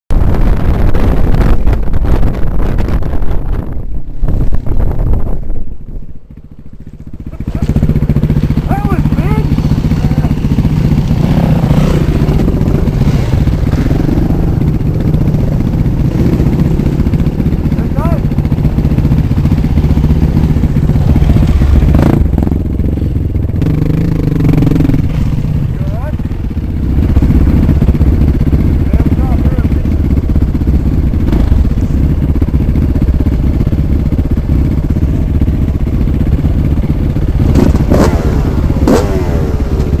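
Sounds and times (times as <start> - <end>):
motorcycle engine running: 0.1 - 40.0.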